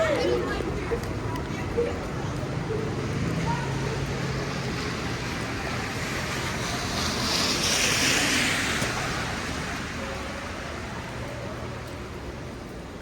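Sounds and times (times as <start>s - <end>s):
tyres hissing on wet street: 0.0s - 13.0s.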